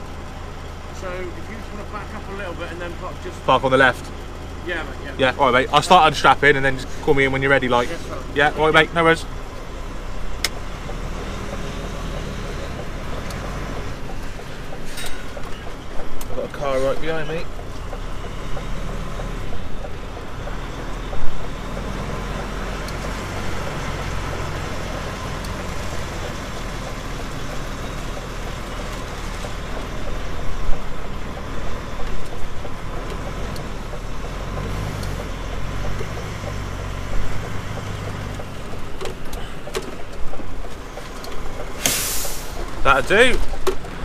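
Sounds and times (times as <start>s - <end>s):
diesel truck engine running: 0.0s - 44.0s
knocks and clunks: 0.0s - 44.0s.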